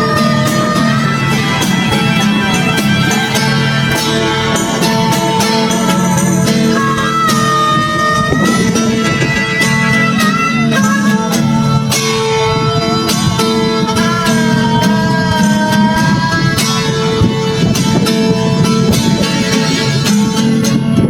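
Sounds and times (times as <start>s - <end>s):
plucked guitar: 0.0s - 21.0s
wavering held melody line: 0.0s - 21.0s.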